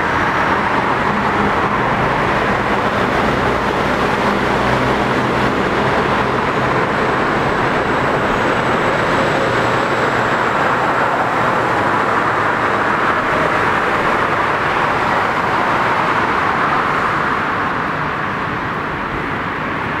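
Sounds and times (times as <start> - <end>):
road traffic roar: 0.0 - 20.0
subway train running: 0.0 - 20.0.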